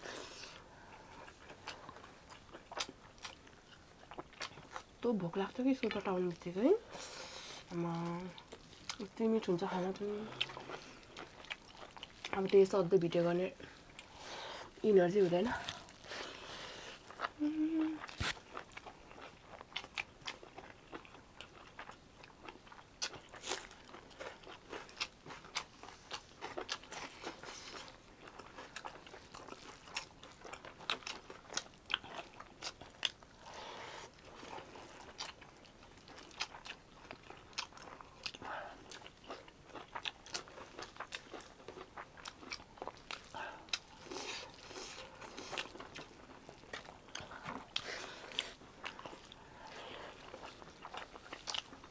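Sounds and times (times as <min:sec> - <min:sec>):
person chewing wetly: 0:00.2 - 0:05.0, 0:05.8 - 0:12.9, 0:13.5 - 0:51.9.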